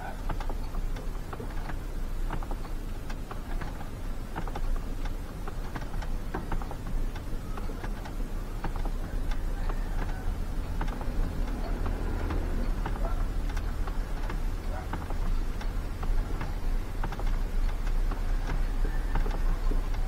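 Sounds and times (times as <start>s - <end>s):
light clicks and creaks: 0.0s - 20.0s
steady low rumble: 0.0s - 20.0s.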